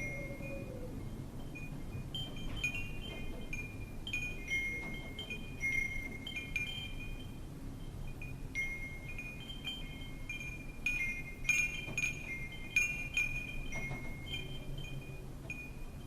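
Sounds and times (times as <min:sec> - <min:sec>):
low rumble of wind: 0:00.0 - 0:16.0
wind chimes ringing: 0:00.0 - 0:16.0.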